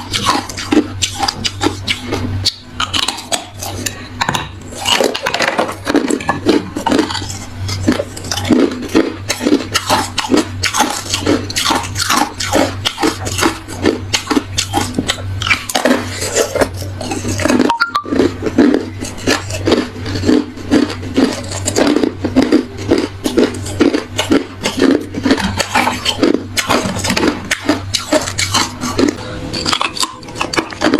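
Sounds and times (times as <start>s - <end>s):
chewing ice crunches: 0.0s - 30.9s.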